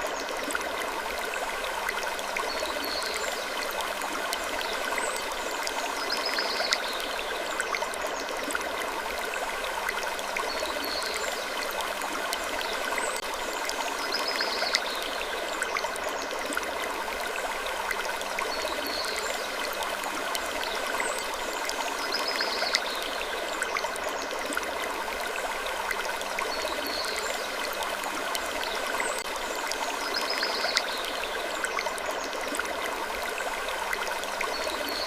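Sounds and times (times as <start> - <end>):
stream-like rushing: 0.0 - 35.0.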